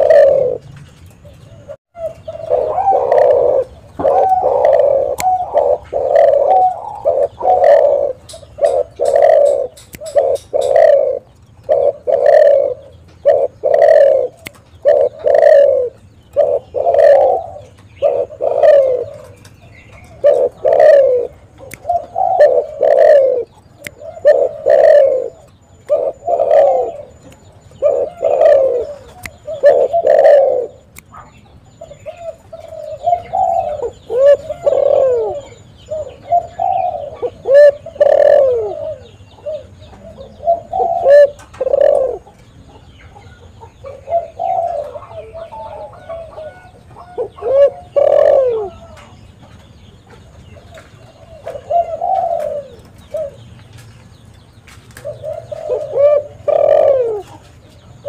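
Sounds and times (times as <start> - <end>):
dove cooing: 0.0 - 49.3, 50.1 - 53.5, 54.9 - 58.0.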